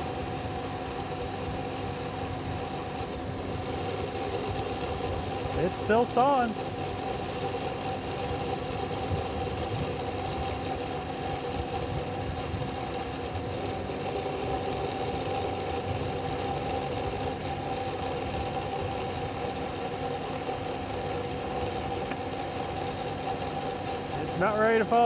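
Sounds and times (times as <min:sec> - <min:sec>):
hydraulic chainsaw sawing limb: 0:00.0 - 0:25.0
tractor engine running: 0:00.0 - 0:25.0.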